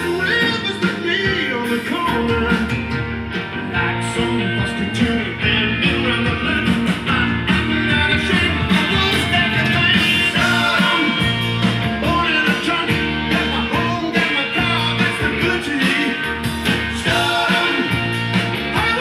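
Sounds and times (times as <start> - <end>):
rock song from vinyl record: 0.0 - 19.0.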